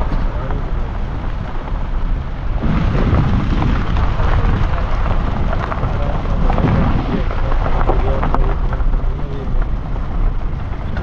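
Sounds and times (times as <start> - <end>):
car rumbling on dirt track: 0.0 - 11.0
wind buffeting microphone: 0.0 - 11.0.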